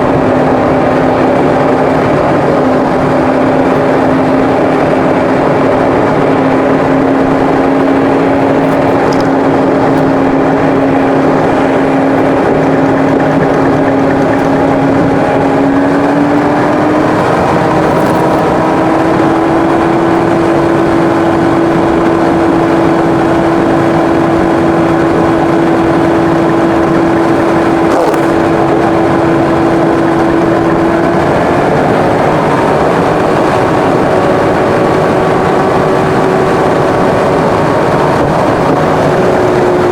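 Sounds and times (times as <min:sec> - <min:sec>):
car engine cruising: 0:00.0 - 0:39.9
tyre and road noise: 0:00.0 - 0:39.9.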